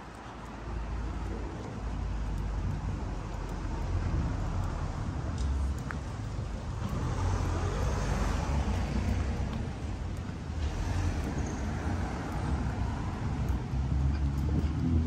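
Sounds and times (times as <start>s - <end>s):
cars passing: 0.0s - 15.0s
steady low traffic rumble: 0.0s - 15.0s.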